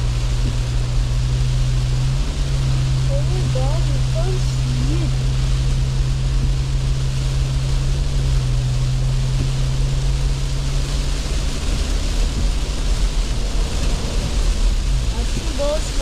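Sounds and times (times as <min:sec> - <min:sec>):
car cabin low rumble: 0:00.0 - 0:16.0
steady low hum: 0:00.0 - 0:16.0
tyres hissing on wet road: 0:00.0 - 0:16.0.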